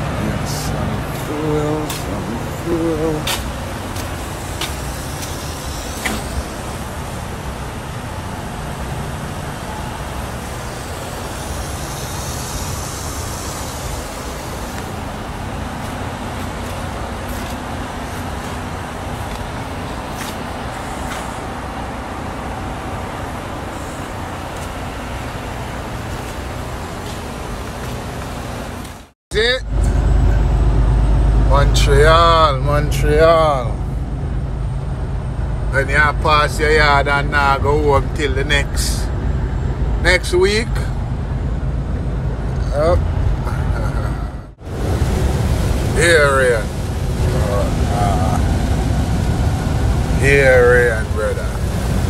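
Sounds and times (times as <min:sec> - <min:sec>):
diesel trucks idling: 0:00.0 - 0:52.0.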